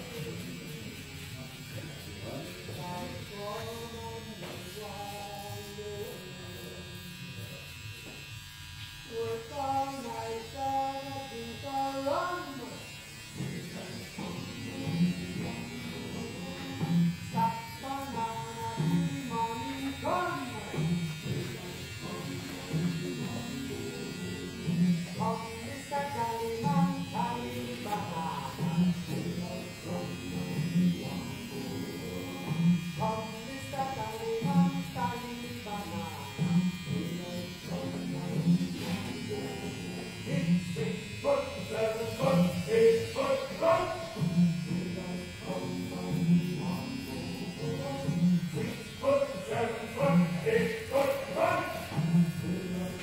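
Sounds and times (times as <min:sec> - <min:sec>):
low electric buzz: 0:00.0 - 0:53.0
person's voice: 0:09.1 - 0:53.0.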